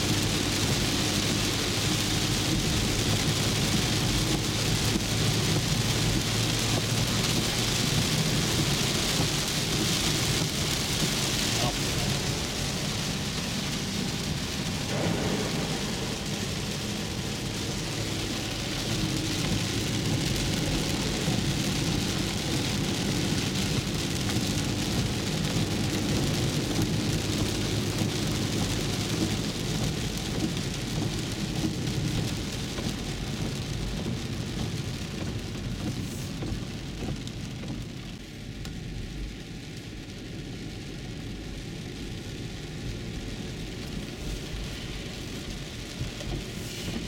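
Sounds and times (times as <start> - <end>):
heavy rain drumming on a car: 0.0 - 47.0
tyres rumbling on wet road: 0.0 - 47.0.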